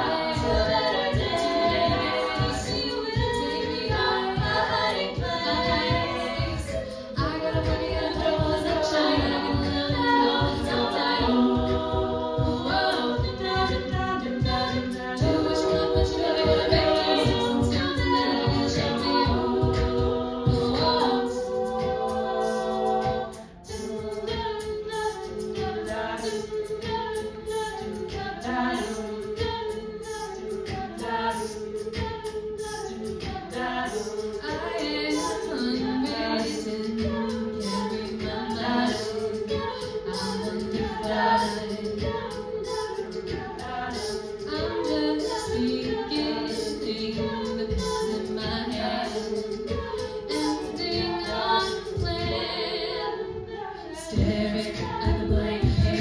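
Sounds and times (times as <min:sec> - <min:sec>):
a cappella group singing harmony: 0:00.0 - 0:56.0.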